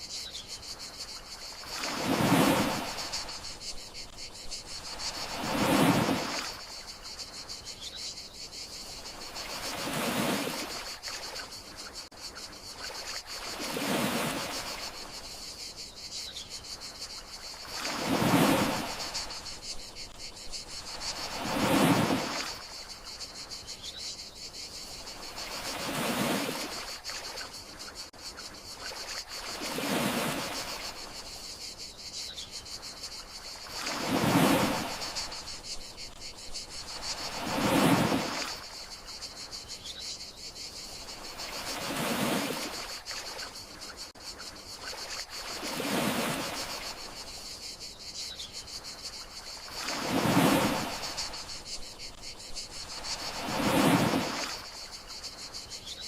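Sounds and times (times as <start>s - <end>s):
crickets chirring: 0.0s - 56.0s
gentle sea waves washing in: 0.8s - 7.4s, 8.7s - 12.1s, 12.7s - 15.5s, 16.8s - 23.6s, 24.8s - 31.4s, 32.9s - 39.5s, 40.8s - 44.2s, 44.8s - 47.4s, 49.0s - 55.6s.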